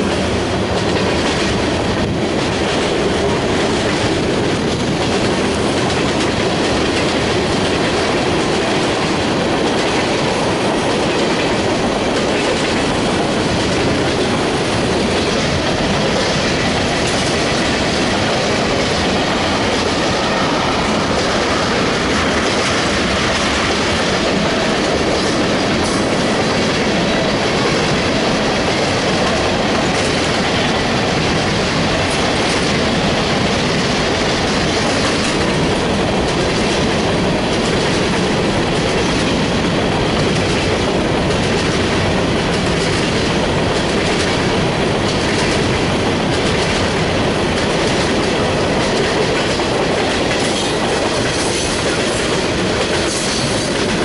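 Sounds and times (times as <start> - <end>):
freight train rumble: 0.0 - 54.0
train wheels clacking on rails: 0.0 - 54.0.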